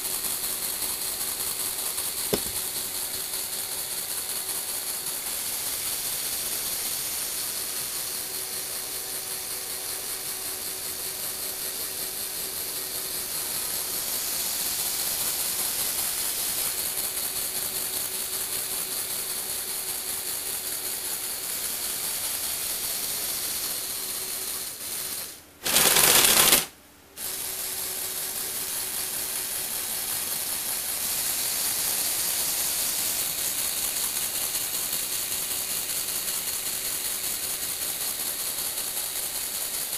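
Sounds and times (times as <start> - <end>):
toy motors and gears whirring: 0.0 - 39.9.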